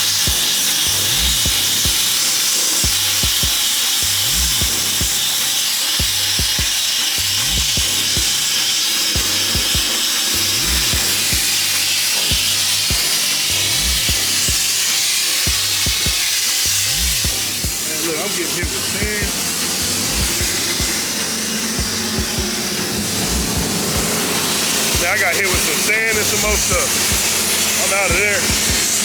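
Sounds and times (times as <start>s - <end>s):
background music with bass beat: 0.0s - 29.0s
sandblaster hissing: 0.0s - 29.0s.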